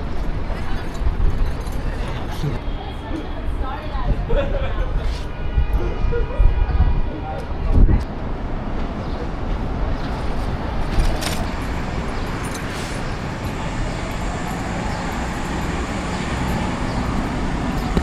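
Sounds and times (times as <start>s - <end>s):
city traffic: 0.0s - 18.0s.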